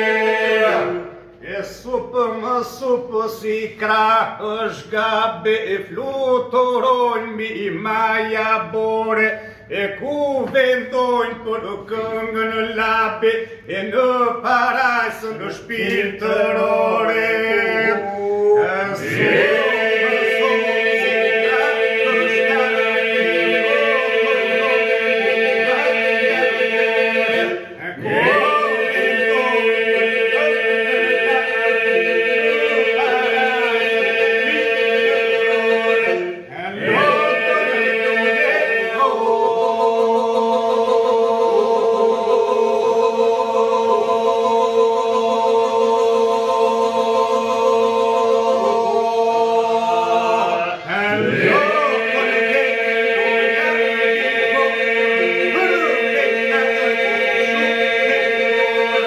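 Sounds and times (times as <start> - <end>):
men singing unaccompanied: 0.0 - 59.0.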